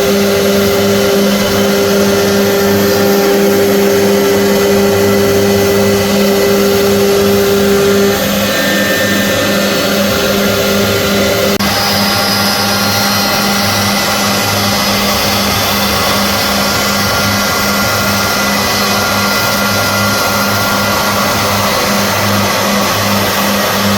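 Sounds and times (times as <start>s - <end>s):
faint steady whines: 0.0s - 23.9s
machine motor humming: 0.2s - 23.9s.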